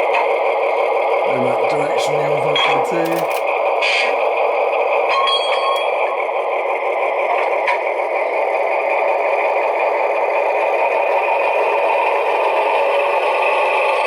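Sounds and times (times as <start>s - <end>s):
model locomotive diesel engine sound: 0.0s - 14.0s.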